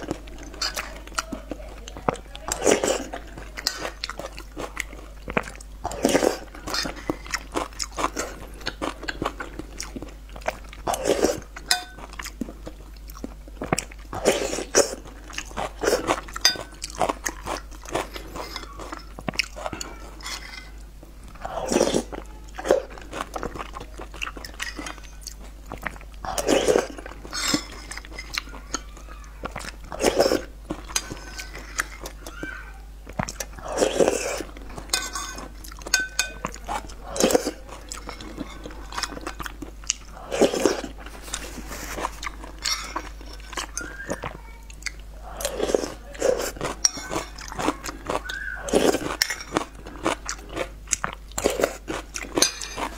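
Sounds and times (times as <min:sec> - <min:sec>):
close chewing and biting: 0:00.0 - 0:52.9.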